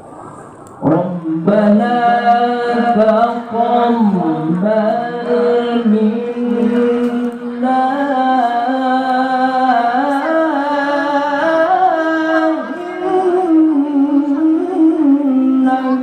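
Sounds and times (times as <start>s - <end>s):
man reciting melodically: 0.8s - 16.0s.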